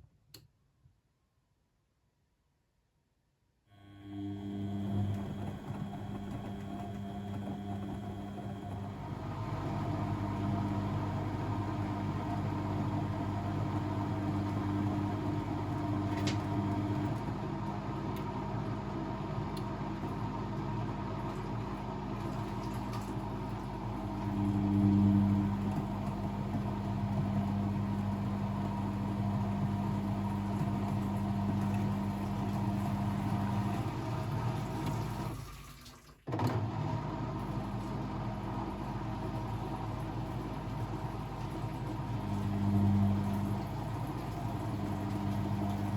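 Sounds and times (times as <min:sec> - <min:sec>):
washing machine motor hum: 0:03.7 - 0:45.9.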